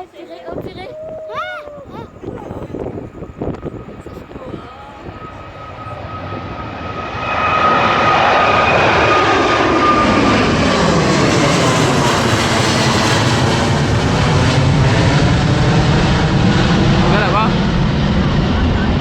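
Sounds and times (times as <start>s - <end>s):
jet engines roaring for takeoff: 0.0s - 19.0s.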